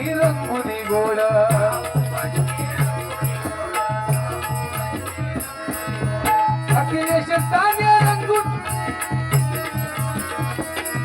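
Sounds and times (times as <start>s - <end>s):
hand drum beat: 0.0s - 11.0s
jingling small percussion: 0.0s - 11.0s.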